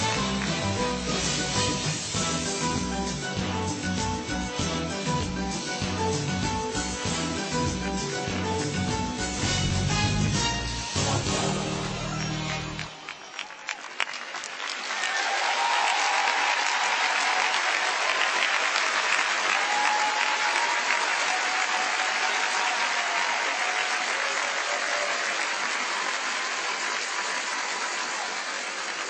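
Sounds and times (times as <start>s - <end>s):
audience applauding: 0.0s - 6.2s, 11.3s - 29.0s.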